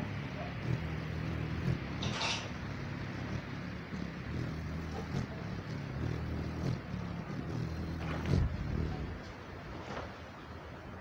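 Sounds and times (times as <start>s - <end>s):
hummingbird wings humming: 0.0s - 11.0s.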